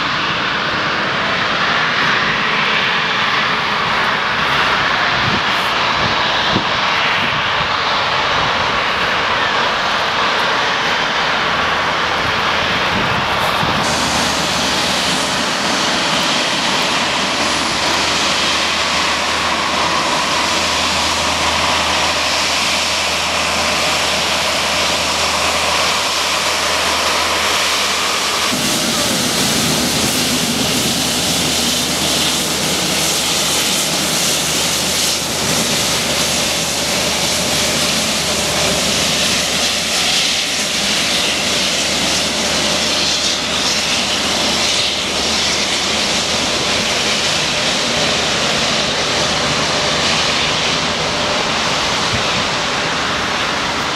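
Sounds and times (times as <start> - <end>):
jet engines whining: 0.0 - 53.9.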